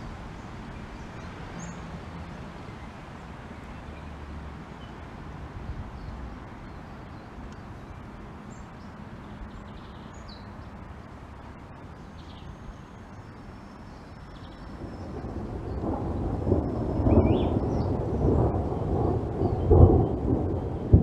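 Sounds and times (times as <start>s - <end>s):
light rain hissing: 0.0s - 21.0s.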